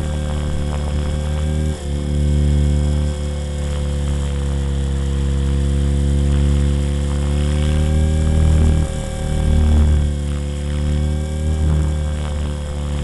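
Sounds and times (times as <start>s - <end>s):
rc helicopter whining: 0.0s - 13.0s.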